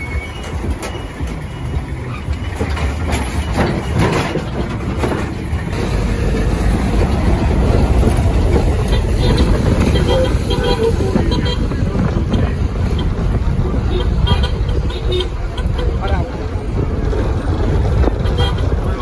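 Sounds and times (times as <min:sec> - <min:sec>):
truck engine and tyres rumbling: 0:00.0 - 0:19.0.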